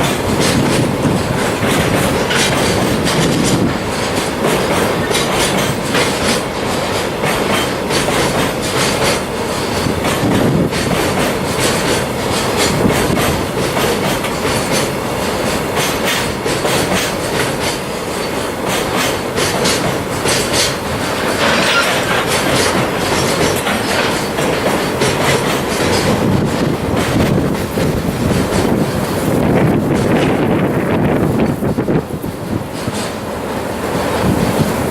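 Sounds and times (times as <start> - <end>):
train wheels clacking over rail joints: 0.0 - 34.9.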